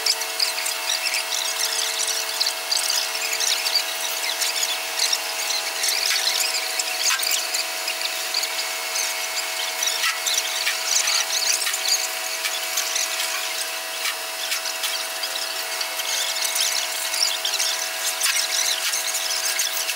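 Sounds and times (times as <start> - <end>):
high-pitched squeaks and scrapes: 0.0 - 19.9
machine hum: 0.0 - 19.9.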